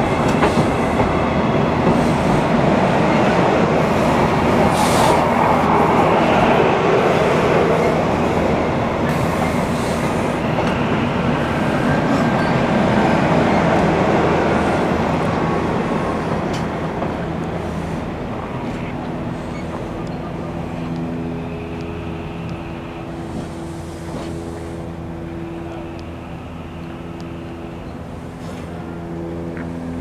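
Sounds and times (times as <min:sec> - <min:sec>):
train wheel and rail noise: 0:00.0 - 0:30.0.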